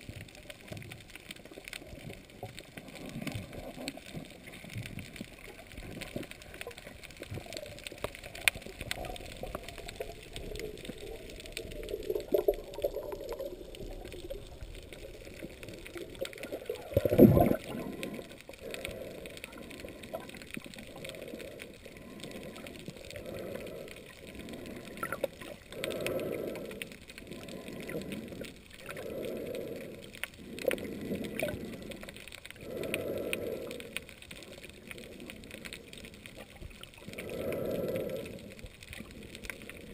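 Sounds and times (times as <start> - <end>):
underwater water movement: 0.0 - 39.9.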